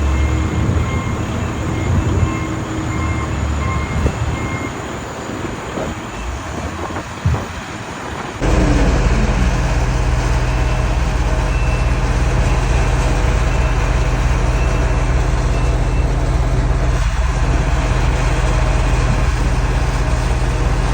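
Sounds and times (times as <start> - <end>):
heavy vehicle engine humming: 0.0 - 20.9.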